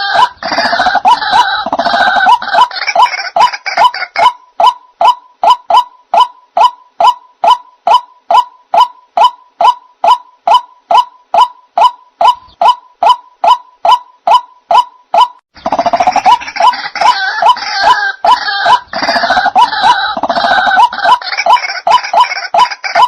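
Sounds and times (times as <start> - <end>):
waterhen croaking calls: 0.0 - 23.0.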